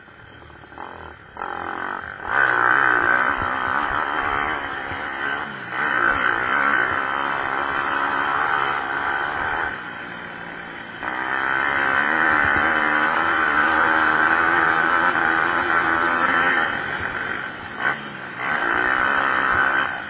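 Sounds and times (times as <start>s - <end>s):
pit bike engines revving: 0.0s - 20.0s.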